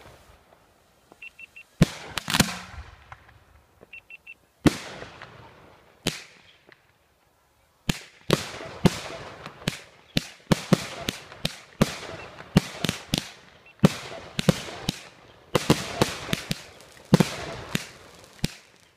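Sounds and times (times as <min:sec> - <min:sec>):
fireworks bangs echoing: 0:00.0 - 0:04.0, 0:04.6 - 0:06.8, 0:07.9 - 0:18.9.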